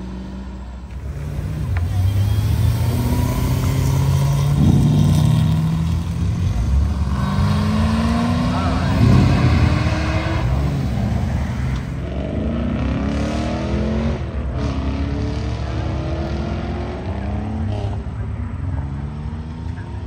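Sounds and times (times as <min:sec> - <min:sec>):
car engine accelerating through gears: 0:00.0 - 0:20.0.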